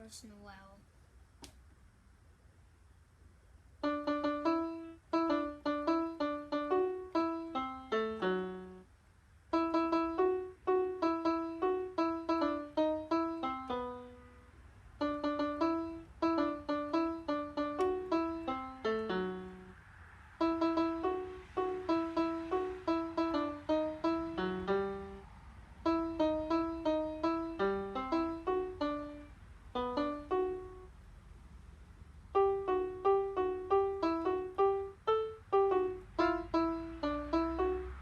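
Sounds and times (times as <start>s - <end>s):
piano melody: 3.8s - 8.8s, 9.5s - 19.8s, 20.4s - 31.0s, 32.3s - 38.0s.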